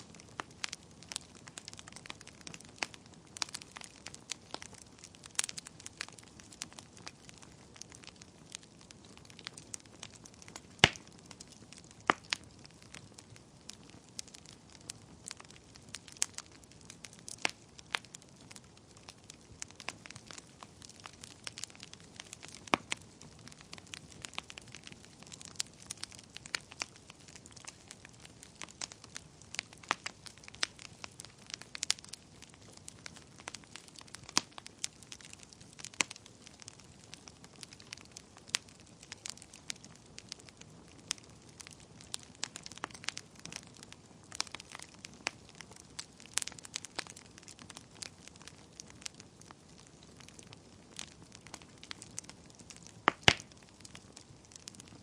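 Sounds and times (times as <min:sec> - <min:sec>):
soft steady fire hiss: 0:00.0 - 0:55.0
wood fire crackling and popping: 0:00.0 - 0:55.0.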